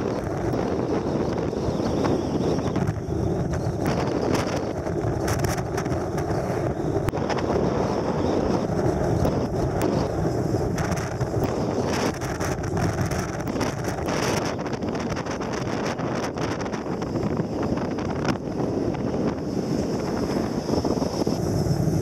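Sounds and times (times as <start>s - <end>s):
engine and road rumble: 0.0s - 22.0s
wind buffeting microphone: 0.0s - 22.0s.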